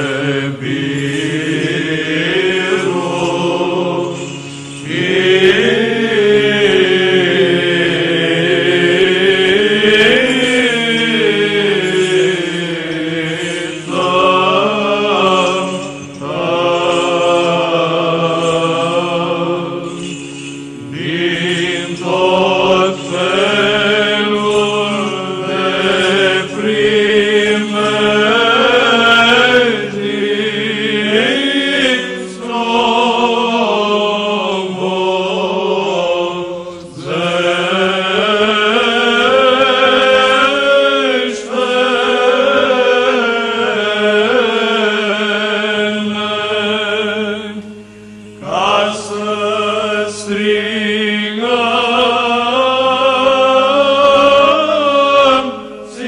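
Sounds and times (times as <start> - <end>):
choir chanting: 0.0 - 56.0
steady low drone: 0.0 - 56.0.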